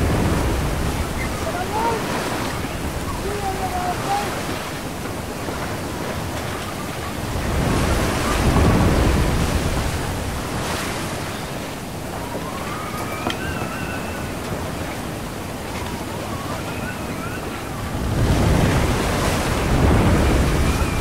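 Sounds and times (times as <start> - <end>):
rain and wind rushing: 0.0 - 21.0
wave crashing: 0.0 - 21.0.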